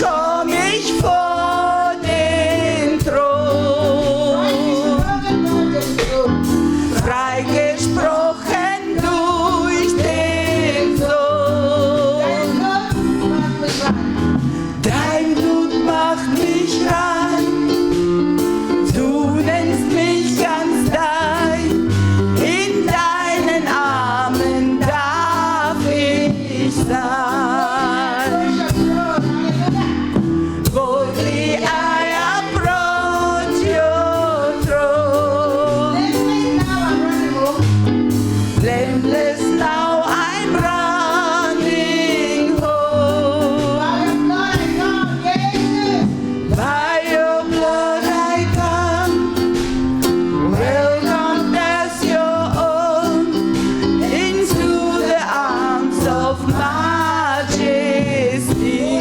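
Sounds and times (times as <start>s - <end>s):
gospel singing: 0.0s - 59.0s
instrumental accompaniment with bass: 0.0s - 59.0s.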